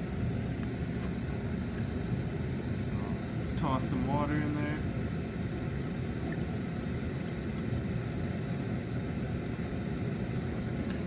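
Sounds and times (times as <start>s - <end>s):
camp stove burning: 0.0s - 11.0s.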